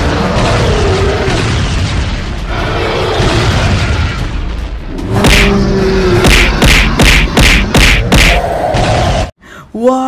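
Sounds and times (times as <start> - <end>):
cartoon explosions booming: 0.0 - 9.3.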